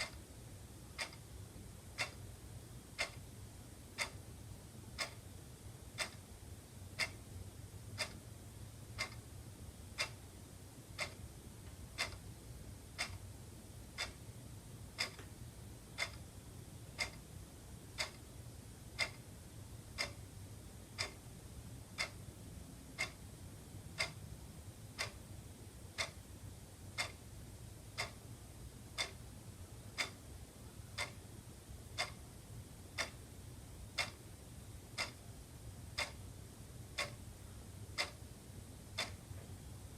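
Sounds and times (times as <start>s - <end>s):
faint low hum: 0.0s - 39.9s
wall clock ticking: 0.0s - 39.9s.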